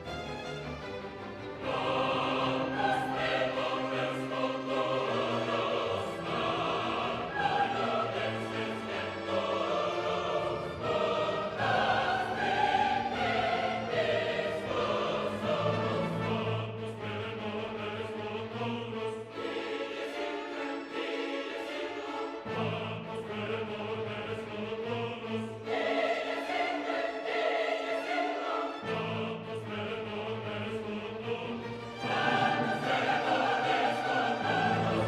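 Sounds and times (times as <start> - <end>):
choral singing with orchestra: 0.0 - 35.0.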